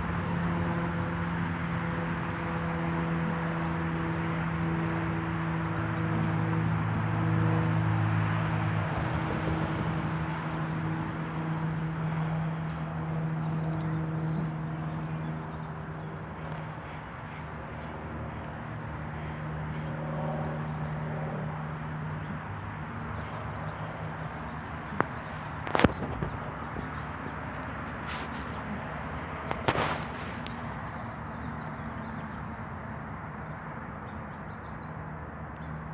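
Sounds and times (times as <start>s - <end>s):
engine hum: 0.0s - 35.9s
outdoor background noise: 0.0s - 35.9s.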